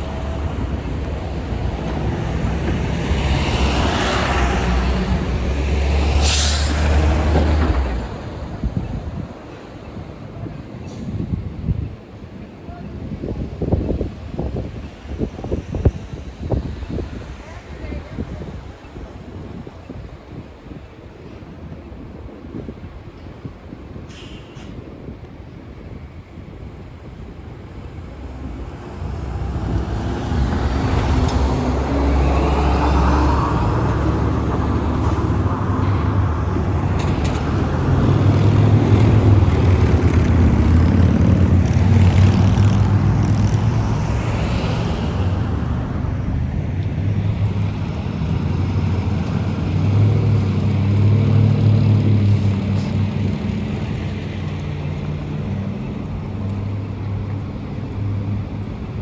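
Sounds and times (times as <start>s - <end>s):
road traffic passing: 0.0s - 21.8s, 23.6s - 59.0s
heavy bus engine hum: 0.0s - 59.0s.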